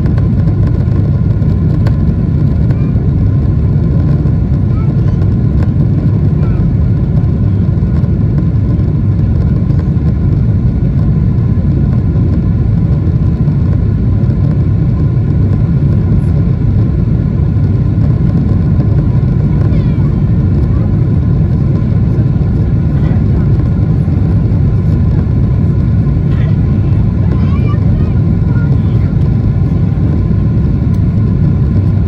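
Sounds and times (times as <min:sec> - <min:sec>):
airflow past fuselage: 0:00.0 - 0:32.0
airplane cabin engine roar: 0:00.0 - 0:32.0.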